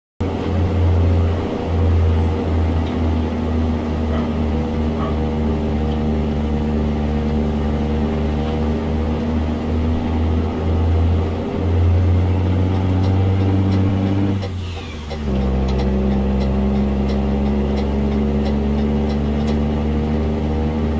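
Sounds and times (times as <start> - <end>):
truck diesel engine rumbling: 0.2 - 20.9.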